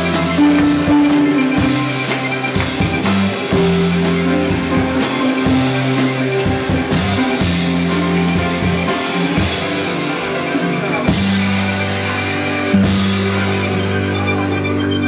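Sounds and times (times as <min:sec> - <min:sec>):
drum kit steady beat: 0:00.0 - 0:14.0
live rock band playing: 0:00.0 - 0:15.0.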